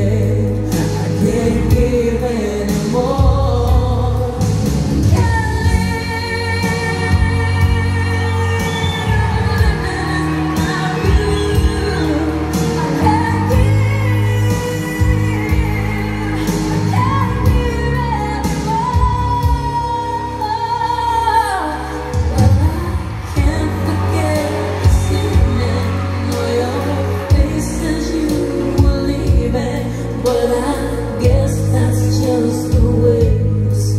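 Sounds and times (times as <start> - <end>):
pop song over loudspeakers: 0.0 - 33.9.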